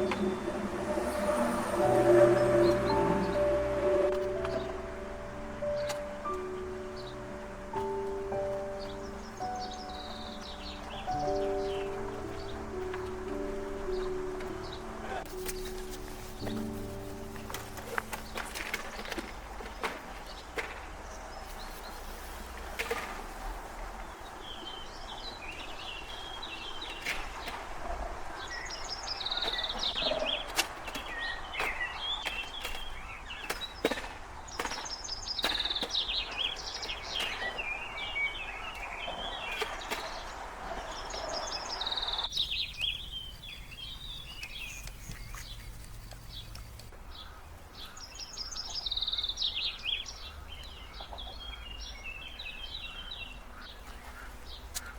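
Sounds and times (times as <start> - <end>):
songbird chirping: 0.0 - 54.9.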